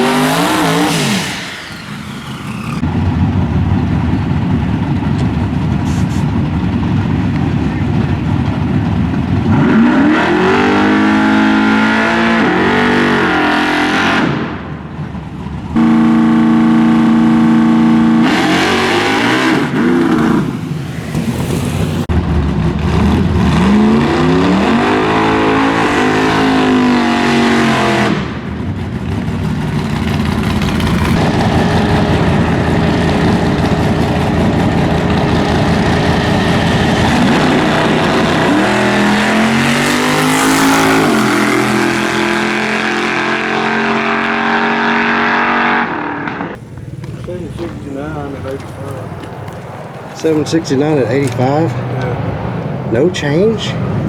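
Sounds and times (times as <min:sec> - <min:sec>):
drag car engine revving: 0:00.0 - 0:54.0.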